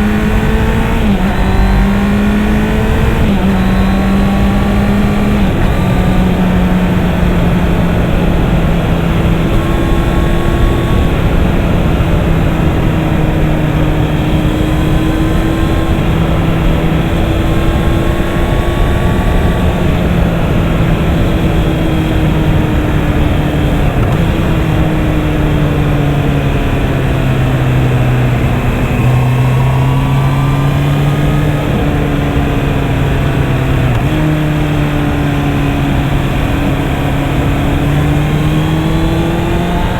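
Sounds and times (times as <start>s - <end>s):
motorcycle engine cruising: 0.0s - 39.9s
wind noise: 0.0s - 39.9s.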